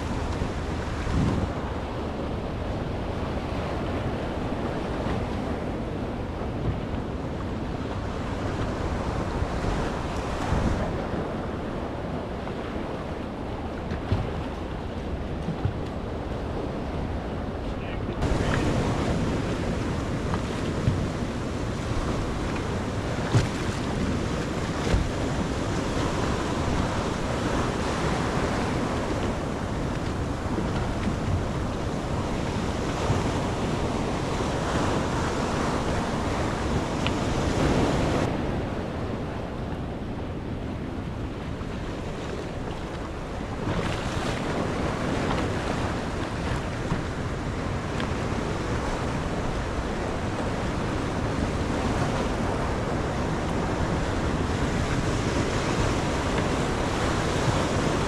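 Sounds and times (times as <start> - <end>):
sea waves: 0.0 - 58.0
wind buffeting microphone: 0.0 - 58.0.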